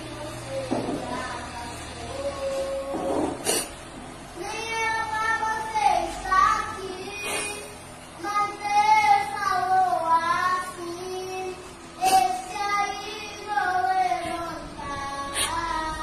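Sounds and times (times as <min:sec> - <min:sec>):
boy singing: 0:00.0 - 0:03.4, 0:04.4 - 0:16.0.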